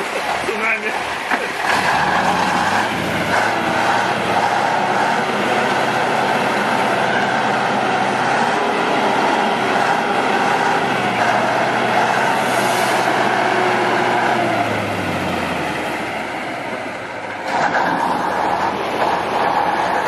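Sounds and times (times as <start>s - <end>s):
loud rushing noise: 0.0s - 20.0s
truck diesel engine droning: 0.0s - 20.0s.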